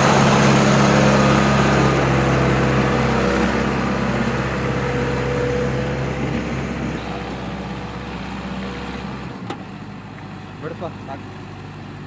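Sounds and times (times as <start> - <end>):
tractor diesel engine hum: 0.0 - 12.0.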